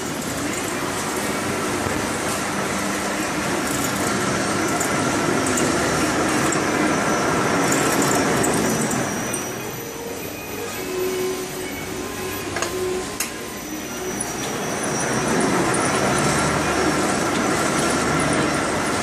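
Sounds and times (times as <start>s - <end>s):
fabric spreading machine running: 0.0s - 19.0s.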